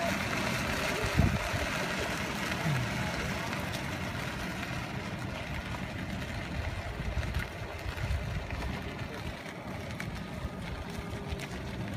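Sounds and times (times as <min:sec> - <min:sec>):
golf cart rumble: 0:00.0 - 0:11.9
wind buffeting microphone: 0:00.0 - 0:11.9.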